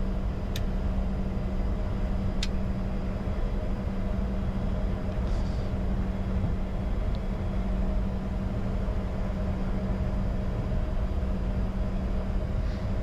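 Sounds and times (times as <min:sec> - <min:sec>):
constant low hum: 0:00.0 - 0:13.0
jet engines idling: 0:00.0 - 0:13.0.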